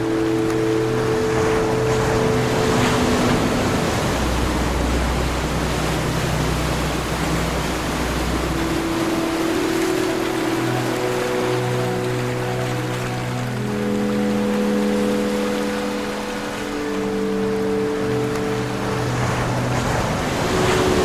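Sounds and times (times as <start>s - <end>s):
ocean waves breaking: 0.0s - 21.0s
soft music with held chords: 0.0s - 21.0s.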